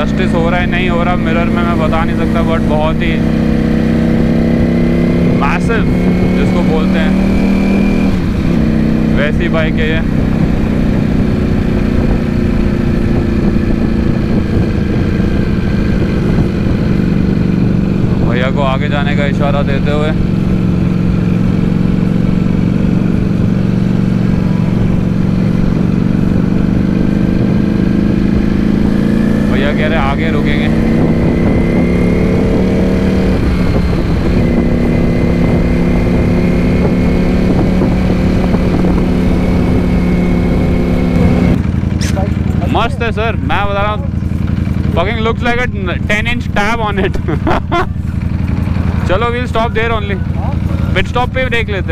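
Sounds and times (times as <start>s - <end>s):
wind rushing over microphone: 0.0s - 50.2s
motorcycle engine cruising: 0.0s - 51.9s.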